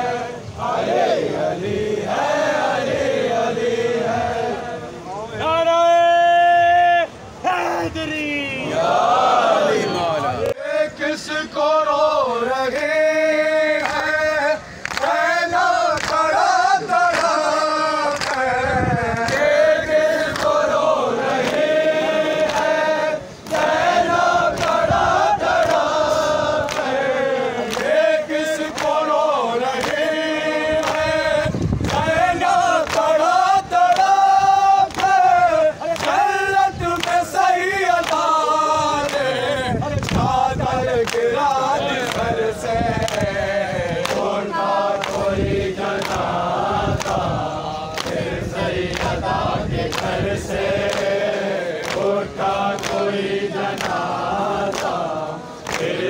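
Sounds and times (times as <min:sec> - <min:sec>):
crowd chanting in unison: 0:00.0 - 0:05.7, 0:07.4 - 0:56.0.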